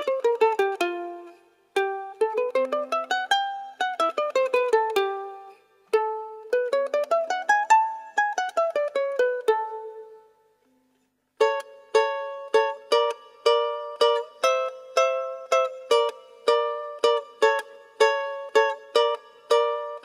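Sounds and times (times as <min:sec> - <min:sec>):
ukulele plucked chords: 0:00.0 - 0:20.0
ukulele plucked notes: 0:00.0 - 0:20.0.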